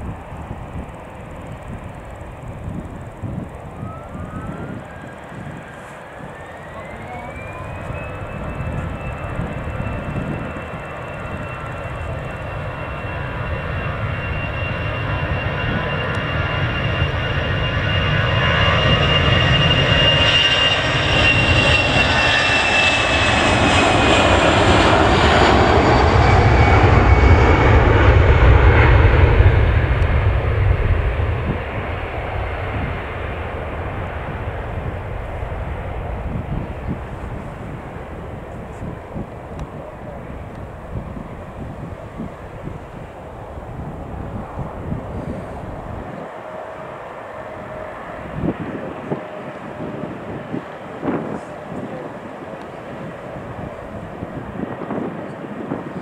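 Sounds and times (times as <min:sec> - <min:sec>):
jet airliner whine and rumble: 0:00.0 - 0:56.0.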